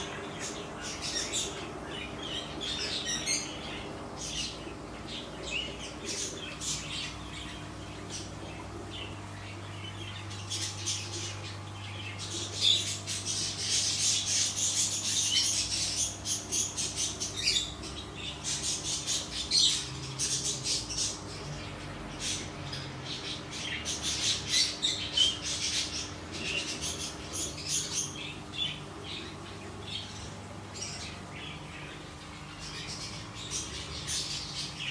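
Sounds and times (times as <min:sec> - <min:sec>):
small birds chirping and squawking: 0:00.0 - 0:34.9
steady low hum: 0:00.0 - 0:34.9.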